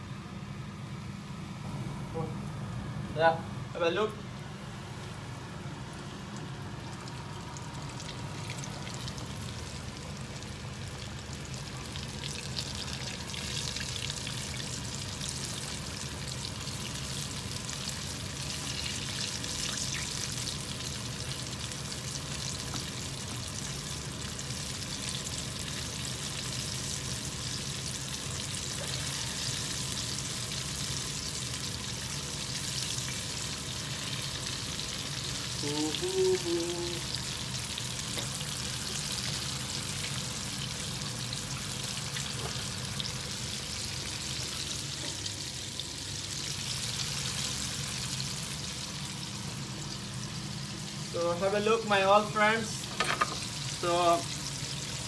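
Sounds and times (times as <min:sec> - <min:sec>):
chicken deep-frying in oil: 0:01.7 - 0:55.0.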